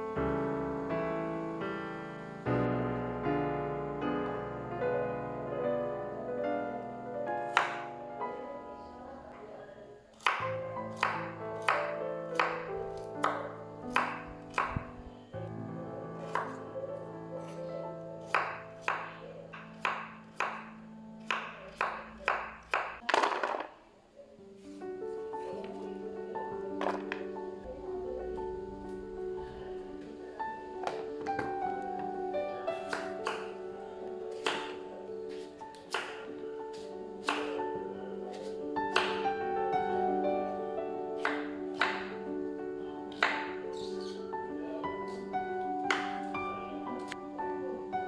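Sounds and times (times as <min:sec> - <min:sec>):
slow gentle piano music: 0:00.0 - 0:23.1, 0:24.1 - 0:48.0.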